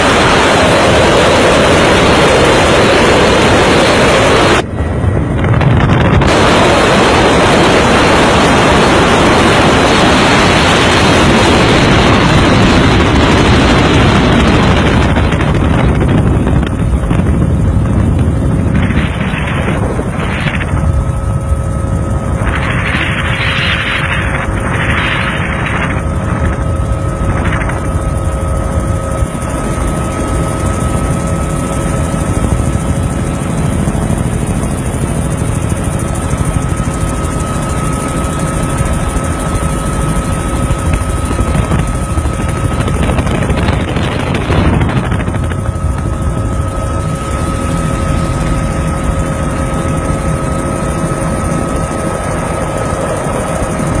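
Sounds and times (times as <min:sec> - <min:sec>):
helicopter engine whine: 0:00.0 - 0:54.0
helicopter rotor chop: 0:00.0 - 0:54.0.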